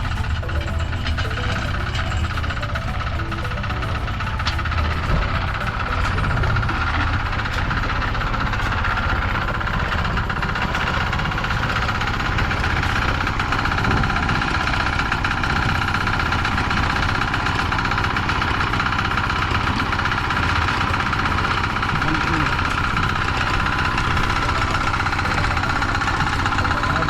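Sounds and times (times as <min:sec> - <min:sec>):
small engine droning: 0:00.0 - 0:27.0.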